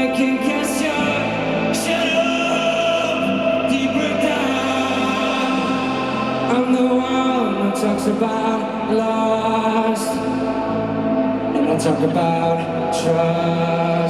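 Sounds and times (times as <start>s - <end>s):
wordless choir-like singing: 0.0s - 14.0s.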